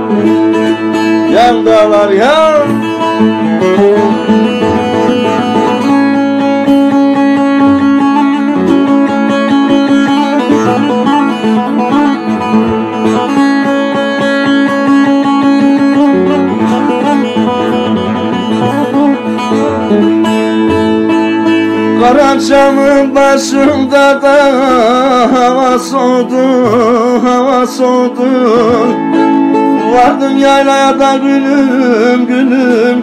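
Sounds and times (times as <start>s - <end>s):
plucked long-necked lute melody: 0.0s - 33.0s.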